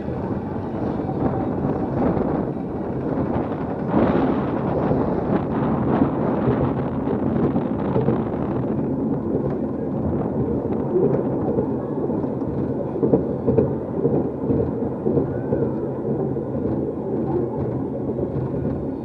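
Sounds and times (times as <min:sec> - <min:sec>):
ride car rumbling along track: 0:00.0 - 0:19.0.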